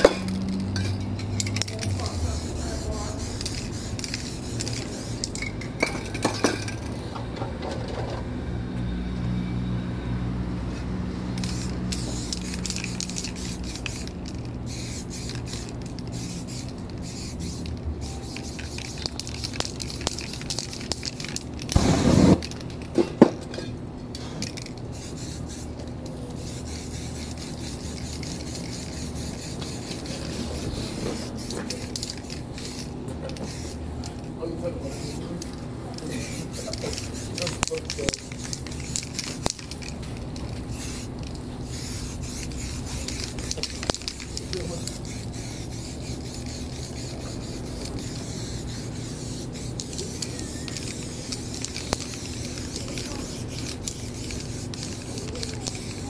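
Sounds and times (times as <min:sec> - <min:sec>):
spray paint can hissing: 0:00.0 - 0:07.0, 0:11.3 - 0:22.9, 0:24.4 - 0:56.0.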